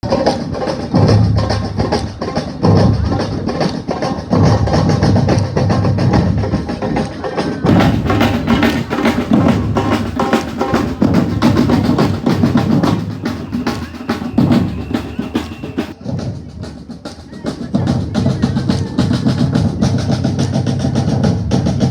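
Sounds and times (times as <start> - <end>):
drum band playing: 0.0 - 21.9.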